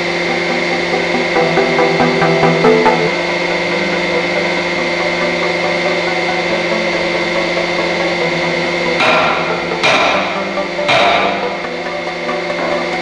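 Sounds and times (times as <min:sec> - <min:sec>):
hydraulic pump motor droning: 0:00.0 - 0:13.0.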